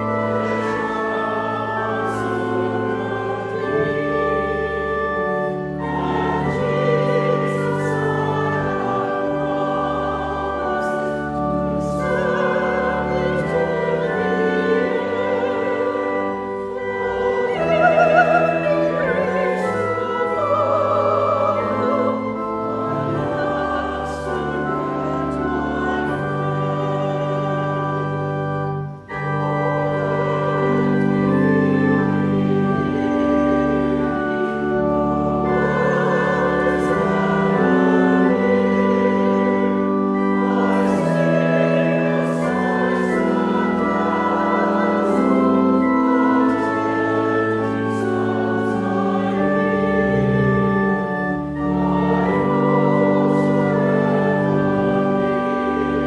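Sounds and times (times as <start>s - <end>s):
choir and congregation singing hymn: 0.0s - 56.0s
church organ: 0.0s - 56.0s.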